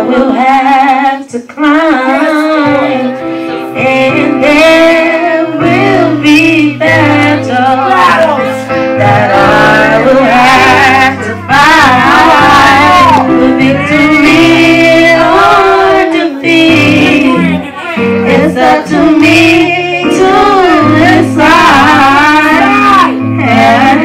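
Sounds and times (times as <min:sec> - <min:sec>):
women singing gospel song: 0:00.0 - 0:24.0
instrumental chords backing: 0:01.7 - 0:24.0
bass line: 0:03.8 - 0:24.0.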